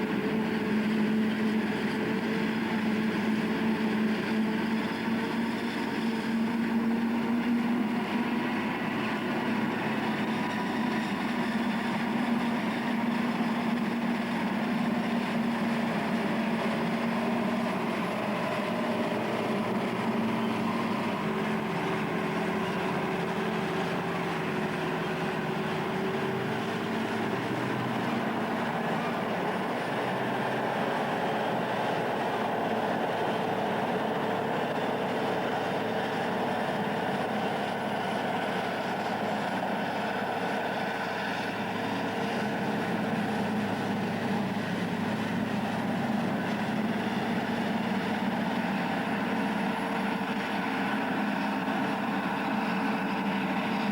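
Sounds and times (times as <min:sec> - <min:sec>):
forage harvester mechanical drone: 0:00.0 - 0:53.9.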